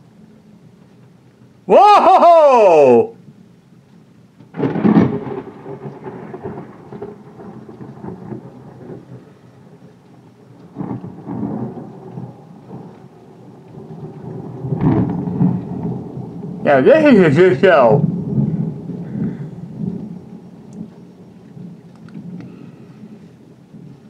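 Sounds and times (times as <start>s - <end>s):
steady rain: 0.0s - 24.0s
thunder crack and rumble: 4.5s - 24.0s.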